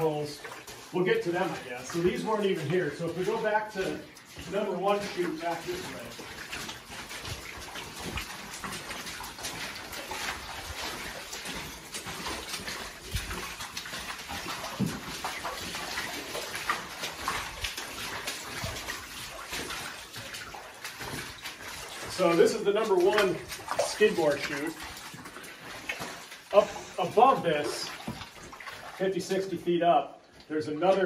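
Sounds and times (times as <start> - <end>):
boots splashing through water: 0.0 - 31.0.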